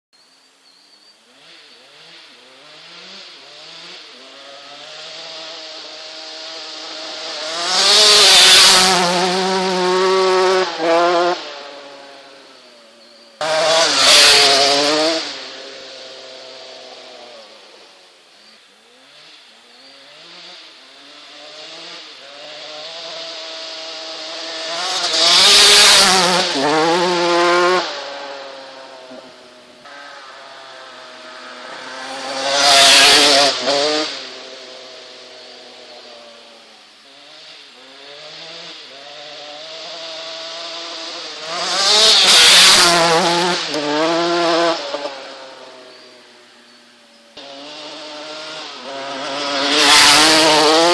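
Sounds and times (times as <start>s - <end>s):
motocross bike engine revving: 1.3s - 18.0s, 18.8s - 50.9s.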